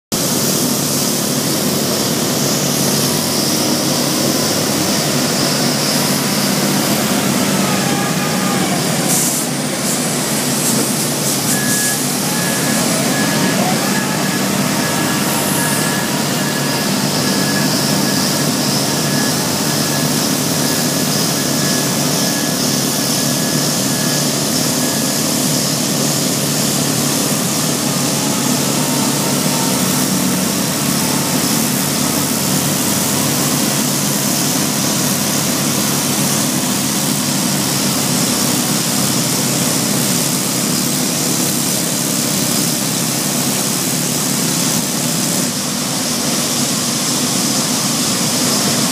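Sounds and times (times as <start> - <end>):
heavy diesel engine running: 0.1 - 48.9.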